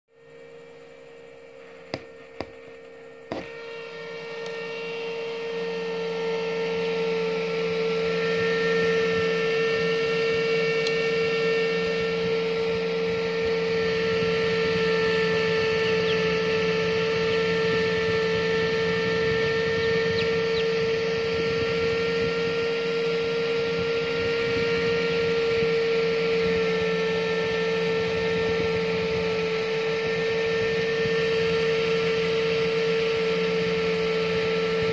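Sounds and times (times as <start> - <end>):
incubator electrical hum: 0.1 - 34.9.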